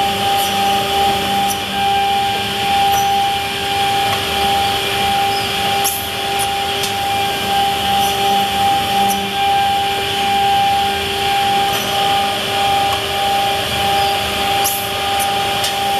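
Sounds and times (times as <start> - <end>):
machine motor whine and hiss: 0.0 - 15.9.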